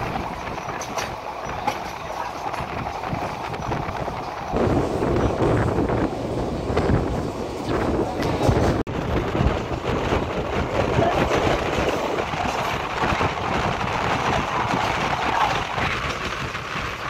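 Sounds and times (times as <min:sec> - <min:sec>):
train coach rattling: 0:00.0 - 0:17.0
train rumbling: 0:00.0 - 0:17.0
wheels clattering on rails: 0:00.0 - 0:17.0.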